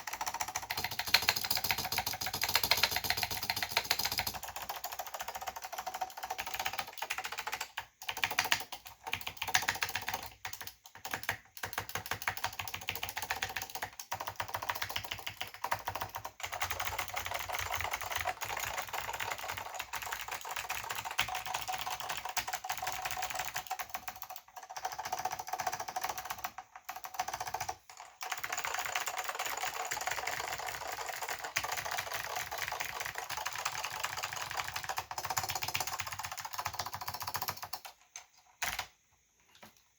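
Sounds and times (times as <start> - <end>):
fast keyboard typing clicks: 0.0 - 39.8.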